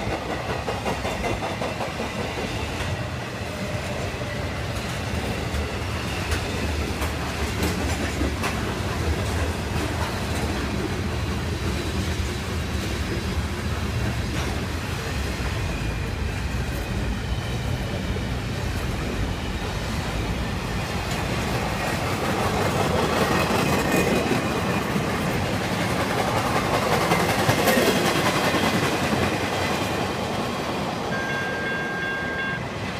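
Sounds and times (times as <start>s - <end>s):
freight train wheels clacking on rails: 0.0s - 32.9s.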